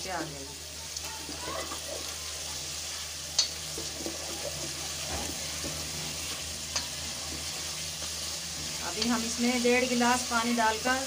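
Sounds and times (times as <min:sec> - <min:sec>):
curry sizzling in a pot: 0:00.0 - 0:11.0.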